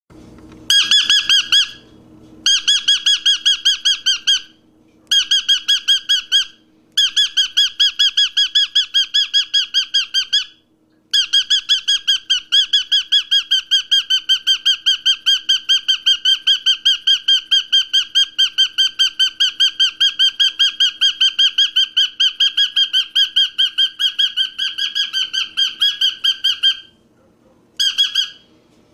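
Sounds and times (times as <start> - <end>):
bird chirping rapidly: 0.7 - 1.9, 2.5 - 27.0, 27.8 - 28.5.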